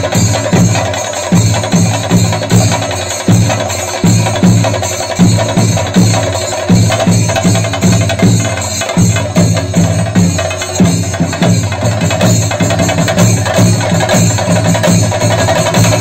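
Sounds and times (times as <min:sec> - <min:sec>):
drums beating fast rhythm: 0:00.0 - 0:16.0.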